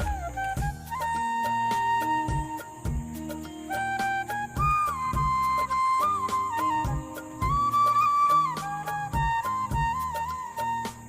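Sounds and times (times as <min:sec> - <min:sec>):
steady beat: 0:00.0 - 0:10.3
flute instrumental music: 0:00.0 - 0:11.0.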